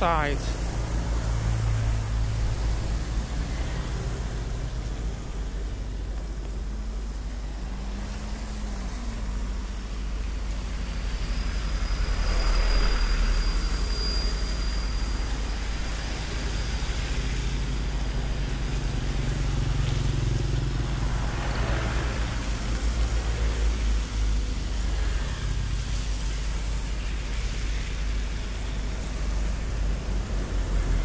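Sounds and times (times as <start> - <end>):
thin high whine: 0.0 - 31.0
traffic passing on wet road: 0.0 - 31.0
tyres hissing on wet asphalt: 0.0 - 31.0.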